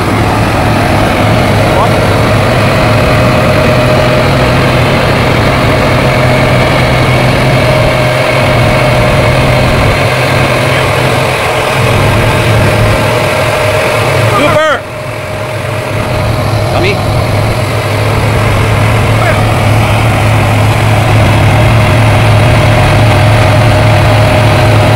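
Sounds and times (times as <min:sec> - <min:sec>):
combine harvester running: 0:00.0 - 0:24.9
machinery whine: 0:00.0 - 0:24.9.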